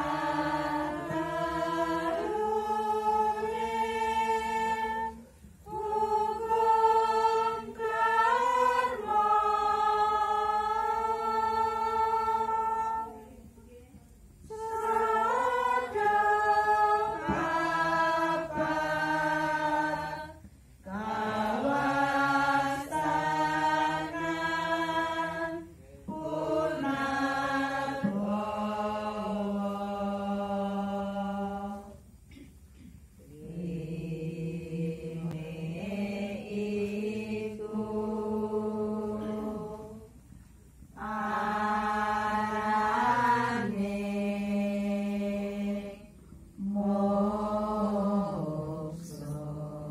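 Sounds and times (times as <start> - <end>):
voices chanting prayer: 0.0 - 13.5, 14.4 - 32.0, 33.2 - 40.2, 41.0 - 49.9.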